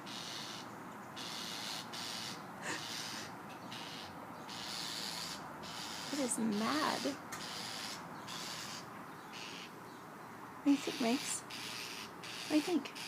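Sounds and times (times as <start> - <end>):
bird harsh hissing rasps: 0.0 - 9.8, 10.7 - 13.0.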